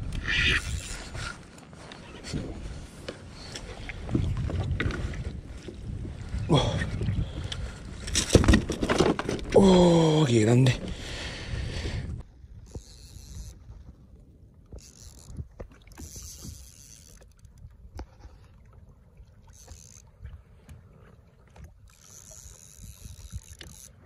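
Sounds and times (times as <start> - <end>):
water splashing around kayak: 0.0 - 24.0.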